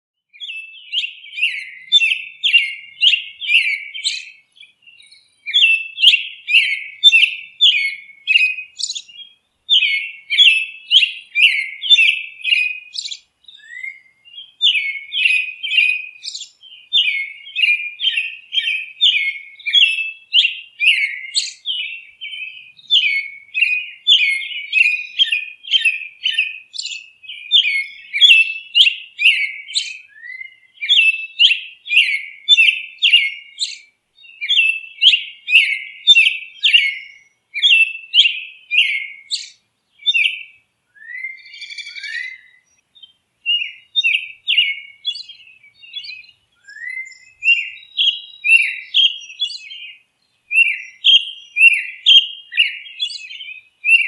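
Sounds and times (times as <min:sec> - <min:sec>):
bird chirping: 0:00.3 - 0:54.0.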